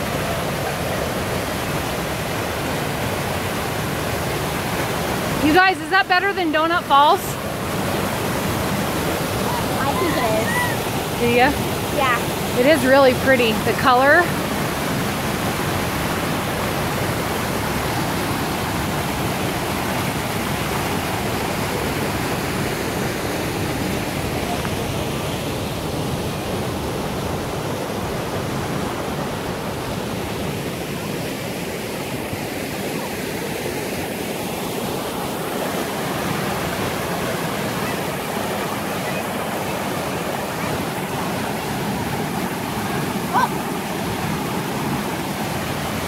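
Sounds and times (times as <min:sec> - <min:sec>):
small waterfall rushing: 0:00.0 - 0:46.0.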